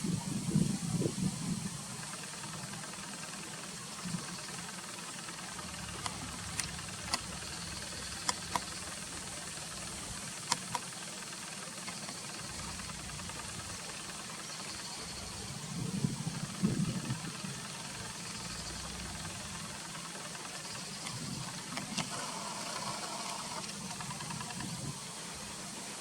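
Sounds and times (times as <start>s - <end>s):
stream water running: 0.0s - 26.0s.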